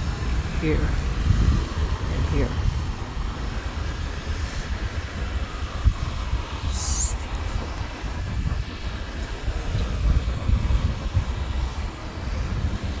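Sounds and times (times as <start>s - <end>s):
outdoor street noise hiss: 0.0s - 13.0s
storm wind buffeting microphone: 0.0s - 13.0s.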